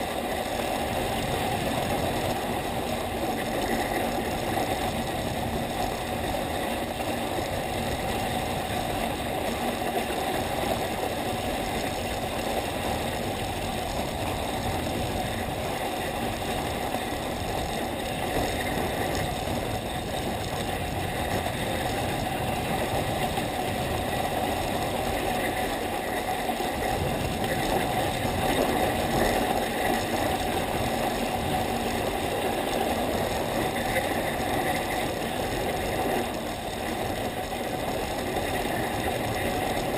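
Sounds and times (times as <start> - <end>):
skis scraping over packed snow: 0.0 - 39.9.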